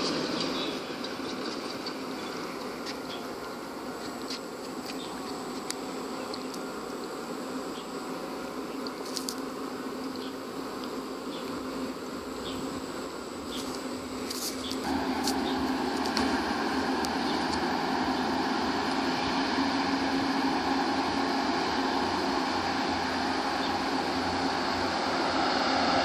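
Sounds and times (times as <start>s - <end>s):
high steady whine: 0.0s - 26.0s
insects buzzing: 0.0s - 26.0s.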